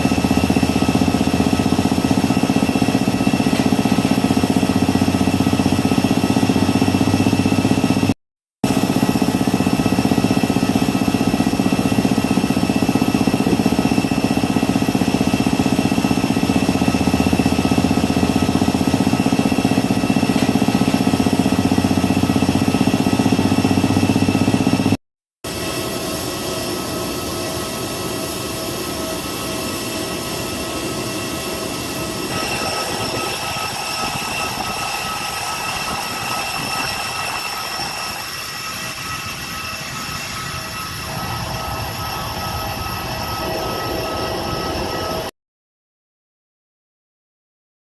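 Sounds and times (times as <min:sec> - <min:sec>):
jet engines whining: 0:00.0 - 0:45.3.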